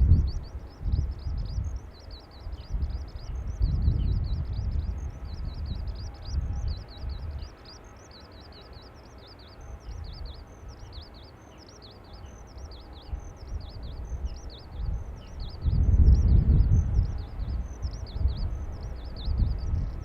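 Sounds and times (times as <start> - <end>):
songbird warbling: 0.0 - 20.0
wind buffeting microphone: 0.0 - 20.0.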